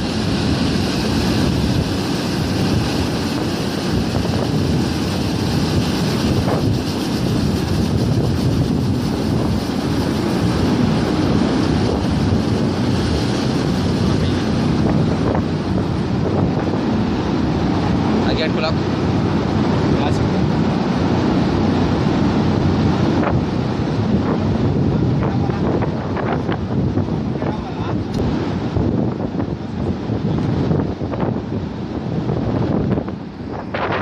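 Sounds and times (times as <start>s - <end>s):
flush water rushing across floor: 0.0s - 27.4s.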